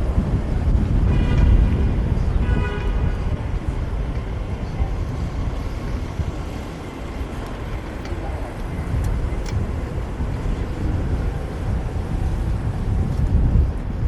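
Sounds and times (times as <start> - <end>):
street traffic: 0.0 - 14.0
wind rumble on microphone: 0.0 - 14.0.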